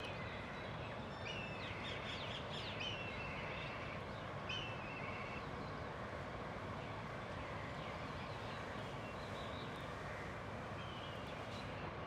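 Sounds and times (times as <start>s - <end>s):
birds calling: 0.0s - 12.0s
outdoor background hiss: 0.0s - 12.0s.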